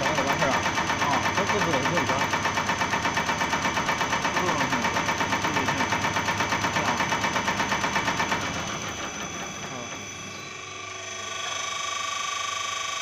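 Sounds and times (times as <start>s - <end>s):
drive motor hum: 0.0s - 11.8s
rhythmic mechanical clatter: 0.0s - 13.0s.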